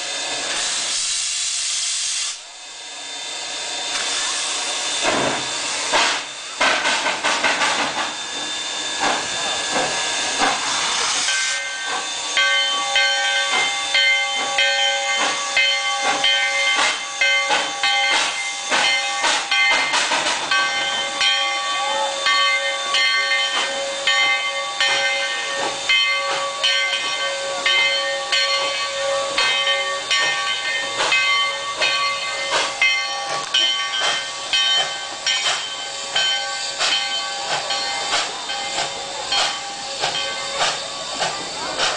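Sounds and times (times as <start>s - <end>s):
train running with hiss: 0.0s - 41.9s.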